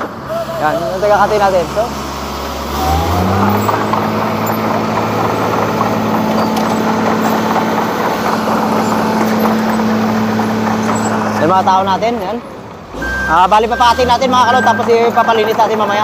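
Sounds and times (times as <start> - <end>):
diesel engine revving: 0.0 - 16.0.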